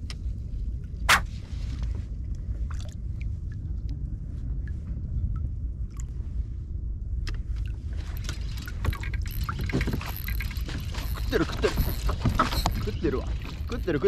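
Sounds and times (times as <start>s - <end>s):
wind and sea water rumble: 0.0s - 14.0s.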